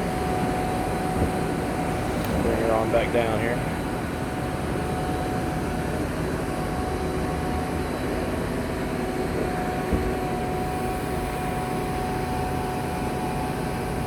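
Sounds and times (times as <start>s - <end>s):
thin steady whine: 0.0s - 14.0s.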